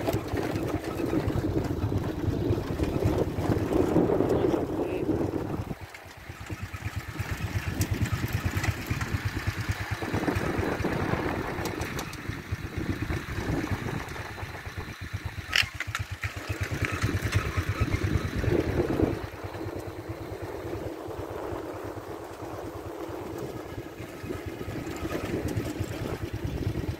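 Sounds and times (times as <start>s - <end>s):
vehicle engine running: 0.0s - 26.9s.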